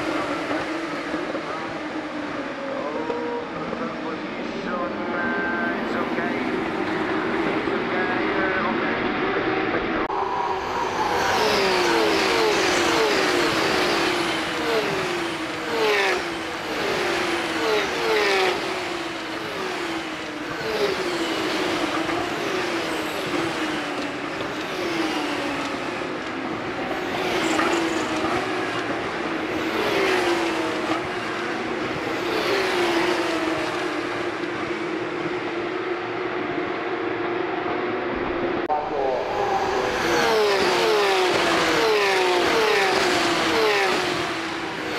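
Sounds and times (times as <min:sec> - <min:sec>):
race cars passing: 0:00.0 - 0:44.9.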